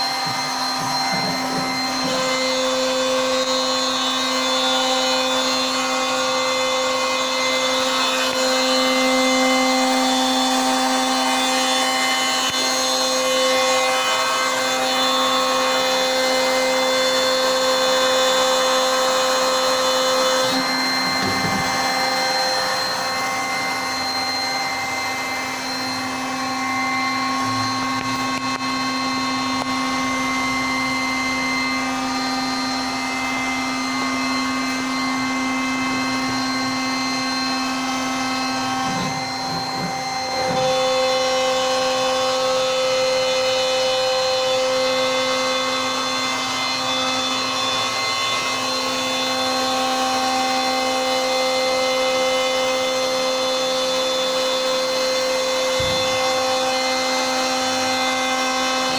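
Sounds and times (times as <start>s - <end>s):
router spindle whine: 0.0s - 58.9s.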